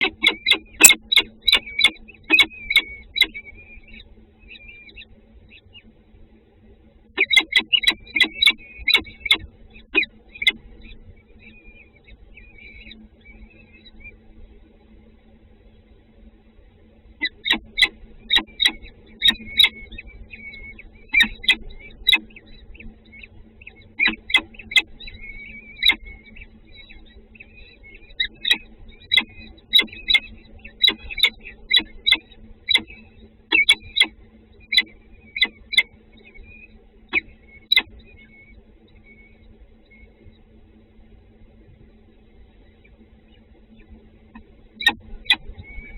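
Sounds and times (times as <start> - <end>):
small birds chirping: 0.0 - 6.1, 7.1 - 16.0, 16.7 - 45.9
steady low hum: 0.0 - 45.9.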